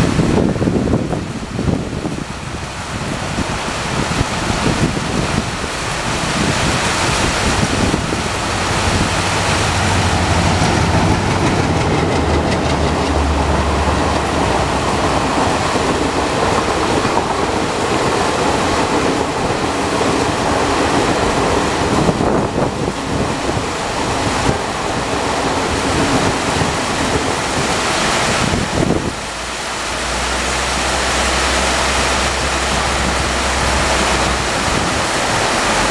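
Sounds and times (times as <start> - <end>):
diesel locomotive engine drone: 0.0 - 35.9
heavy rain: 0.0 - 35.9
train coaches rolling by: 0.0 - 35.9.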